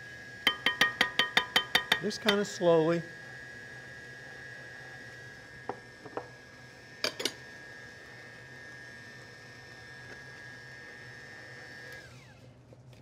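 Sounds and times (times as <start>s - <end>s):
stand mixer motor whine: 0.0s - 12.7s.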